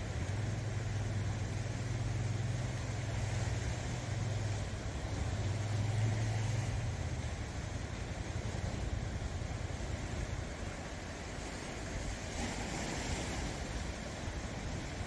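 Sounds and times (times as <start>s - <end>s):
low engine hum: 0.0s - 15.0s
waves washing over rocks: 0.0s - 15.0s.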